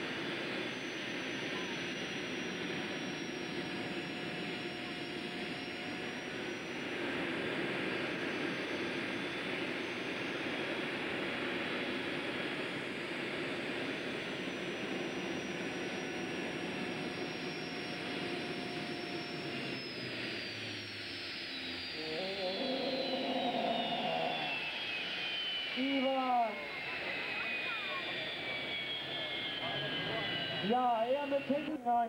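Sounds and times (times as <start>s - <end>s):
gas turbine engines running: 0.0s - 32.0s.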